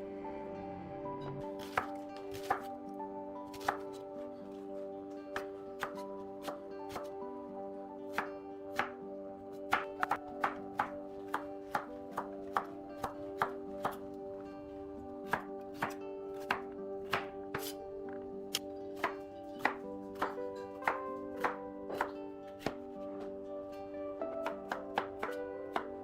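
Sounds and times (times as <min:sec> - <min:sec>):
sustained chord background music: 0:00.0 - 0:26.0.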